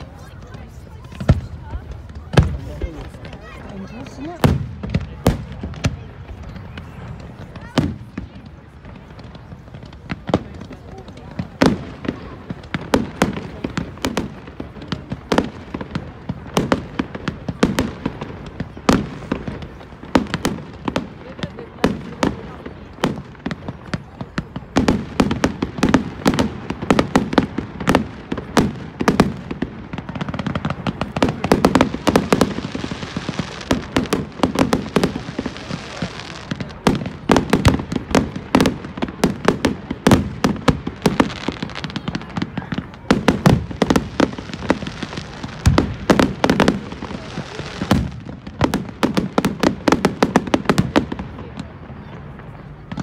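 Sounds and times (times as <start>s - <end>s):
fireworks bursts and bangs: 0.0s - 53.0s
fireworks crackle: 0.0s - 53.0s.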